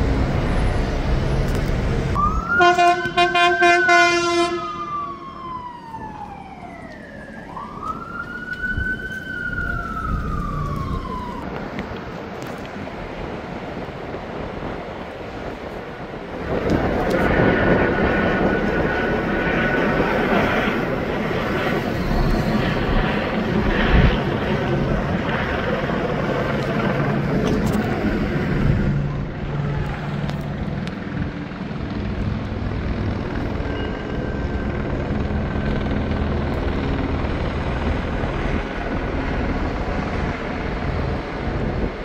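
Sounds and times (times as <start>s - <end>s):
helicopter rotor drone: 0.0s - 42.0s.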